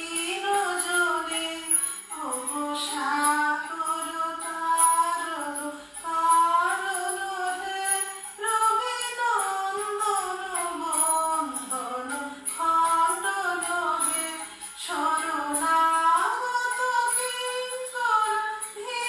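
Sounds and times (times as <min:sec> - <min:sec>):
woman singing devotional song: 0:00.0 - 0:19.0.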